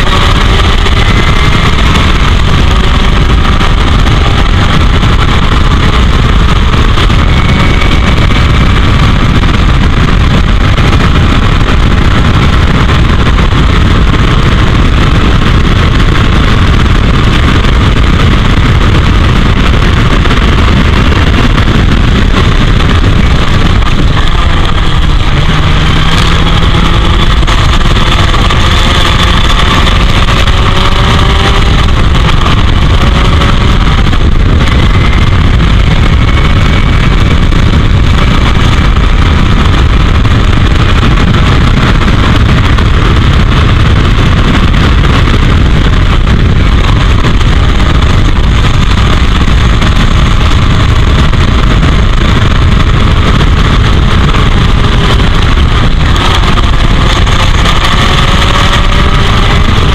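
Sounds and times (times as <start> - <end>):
faint racing car engine: 0.0 - 59.9
wind buffeting microphone: 0.0 - 59.9.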